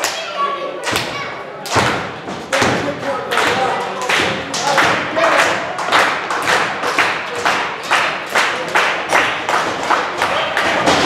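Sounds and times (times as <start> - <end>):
crowd clapping in unison: 0.9 - 11.0.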